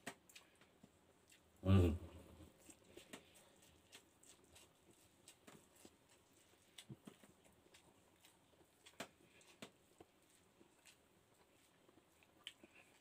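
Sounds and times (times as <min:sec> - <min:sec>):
wet chewing clicks and smacks: 0:00.0 - 0:01.6, 0:02.6 - 0:13.0.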